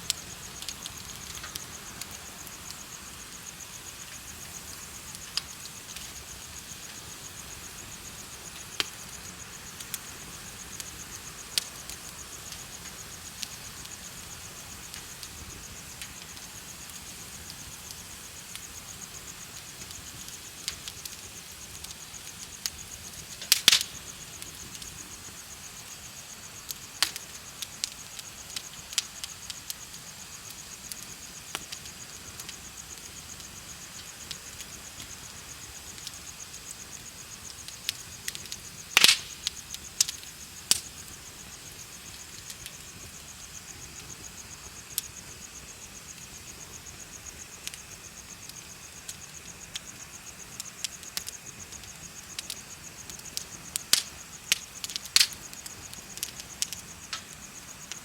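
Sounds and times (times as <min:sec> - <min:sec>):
bonfire crackling and popping: 0:00.0 - 0:58.0
crickets chirping: 0:00.0 - 0:58.0.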